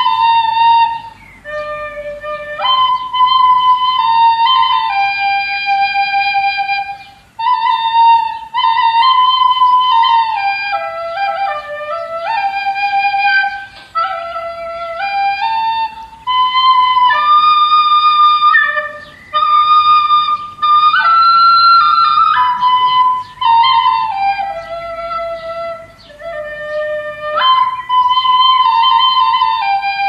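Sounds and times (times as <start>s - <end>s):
recorder playing slow melody: 0.0s - 30.0s.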